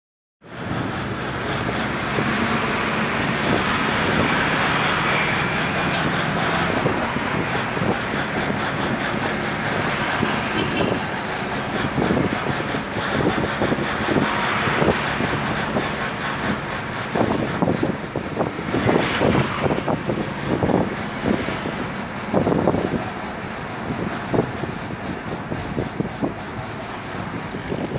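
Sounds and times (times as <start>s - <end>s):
road noise: 0.4s - 27.9s
car engine running: 0.7s - 27.9s.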